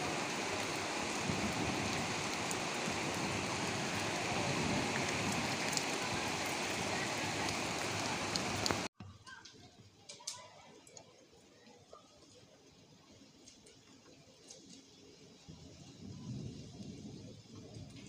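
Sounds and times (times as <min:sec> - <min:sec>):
steady rain falling: 0:00.0 - 0:08.9, 0:09.5 - 0:18.0.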